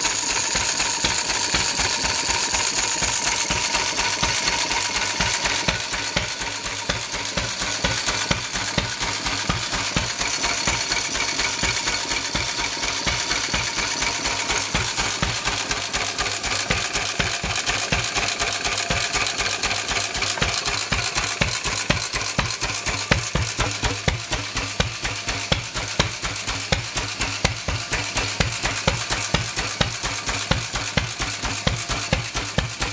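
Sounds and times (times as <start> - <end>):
stationary engine knocking: 0.0 - 32.9.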